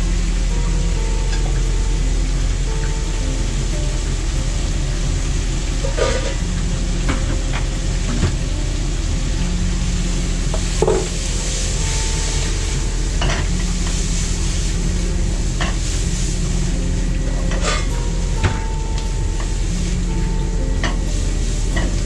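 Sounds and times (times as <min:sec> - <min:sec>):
food sizzling in a pan: 0:00.0 - 0:22.0
steady low hum: 0:00.0 - 0:22.0.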